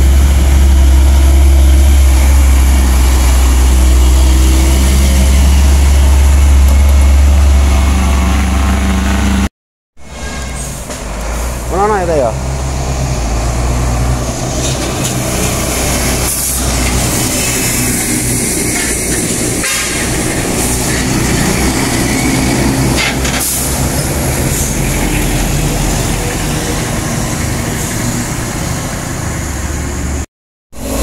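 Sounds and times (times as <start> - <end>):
diesel trucks passing: 0.0 - 31.0
tyre and road noise: 0.0 - 31.0.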